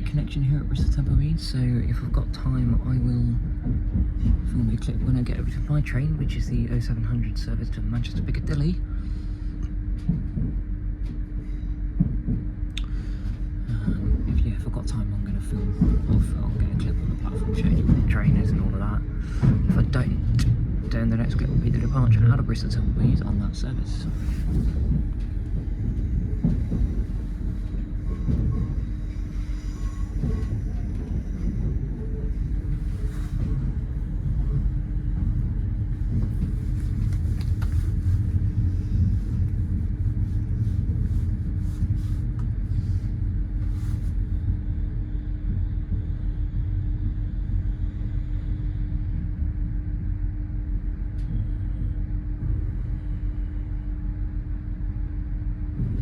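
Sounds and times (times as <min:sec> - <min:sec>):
train rumbling with low hum: 0:00.0 - 0:56.0.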